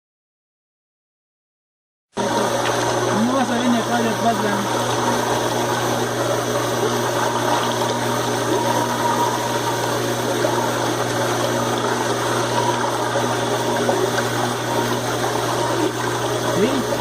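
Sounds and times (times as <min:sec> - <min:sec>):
washing machine pump hum: 0:02.2 - 0:17.0
water rushing: 0:02.2 - 0:17.0.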